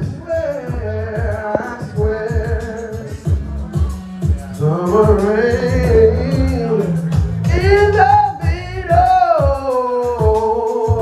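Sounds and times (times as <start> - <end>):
man singing into a microphone: 0.0 - 11.0
slow r and b backing track: 0.0 - 11.0.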